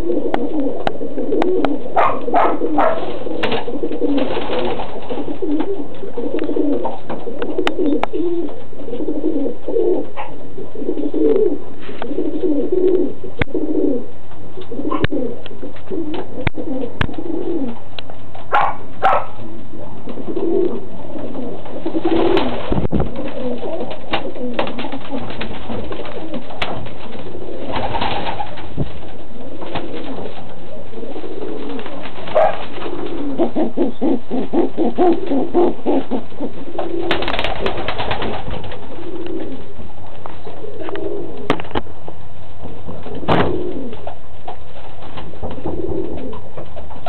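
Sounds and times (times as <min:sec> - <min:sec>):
pigeons cooing: 0:00.0 - 0:41.9, 0:42.7 - 0:47.0.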